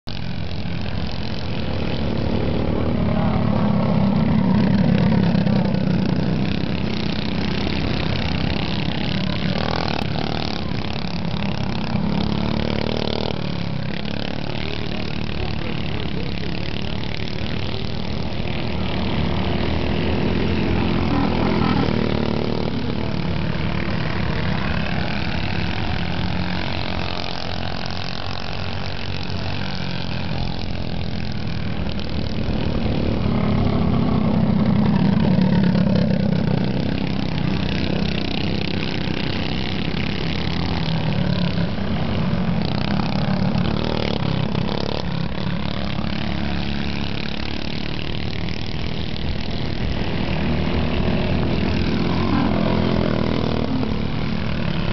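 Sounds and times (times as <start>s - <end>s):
go-kart engines: 0.0s - 54.9s.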